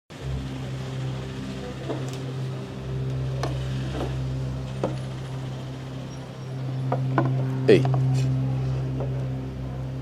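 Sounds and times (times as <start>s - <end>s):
low mechanical hum: 0.1s - 10.0s.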